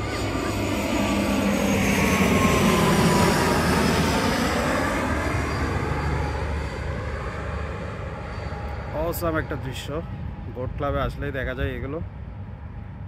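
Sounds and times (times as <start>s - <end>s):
airliner passing overhead: 0.0s - 13.0s.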